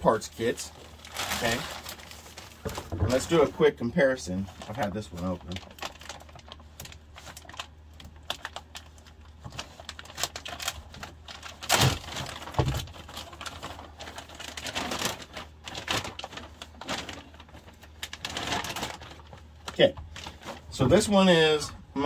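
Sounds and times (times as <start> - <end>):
plastic bags crinkling: 0.0 - 21.7.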